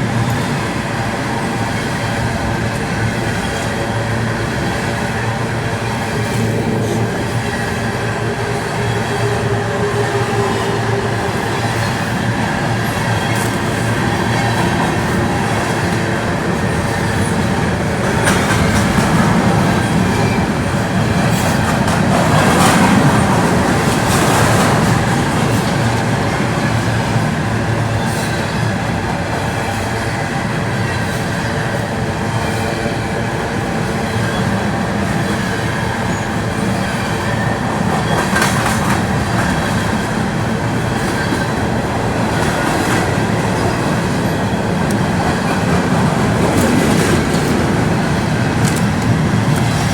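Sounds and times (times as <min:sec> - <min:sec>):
train wheels clattering on rails: 0:00.0 - 0:49.9.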